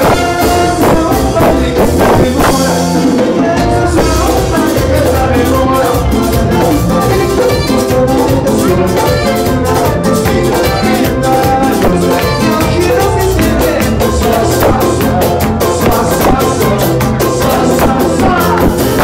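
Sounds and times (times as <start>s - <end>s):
drum kit beat: 0.0s - 19.0s
keyboard: 0.0s - 19.0s
live band playing dance music: 0.0s - 19.0s.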